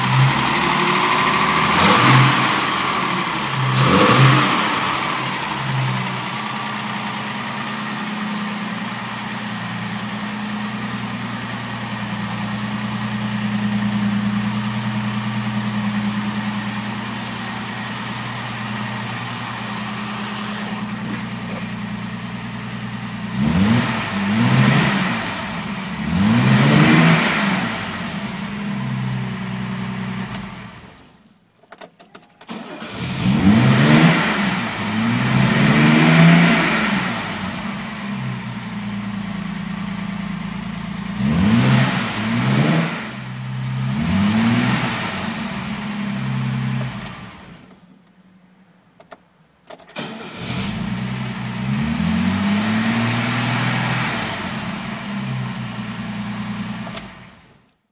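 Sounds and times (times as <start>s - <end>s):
car engine idling and revving: 0.0s - 31.2s, 32.5s - 48.1s, 49.9s - 57.8s.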